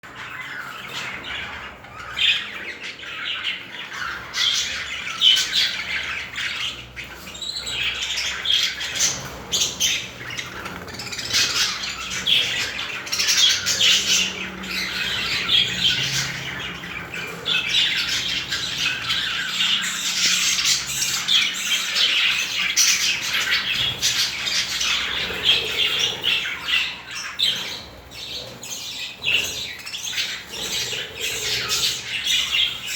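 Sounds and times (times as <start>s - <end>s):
budgerigars chattering: 0.1s - 32.9s.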